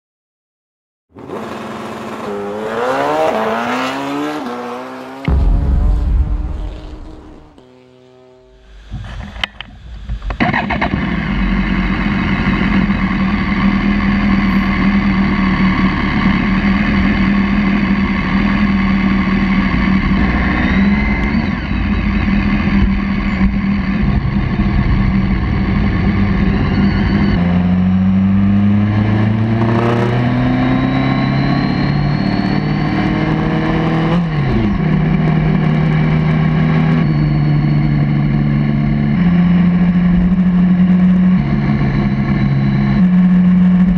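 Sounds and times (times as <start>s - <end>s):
motorcycle engine running: 5.3s - 43.9s.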